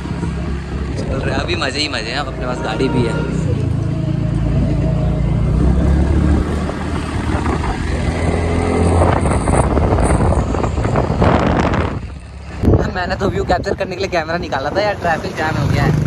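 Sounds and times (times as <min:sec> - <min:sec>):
wind buffeting microphone: 0:00.0 - 0:02.5, 0:03.4 - 0:16.0.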